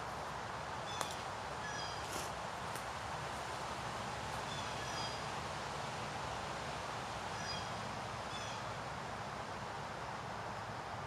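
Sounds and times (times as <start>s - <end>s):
wind through leaves: 0.0s - 11.0s.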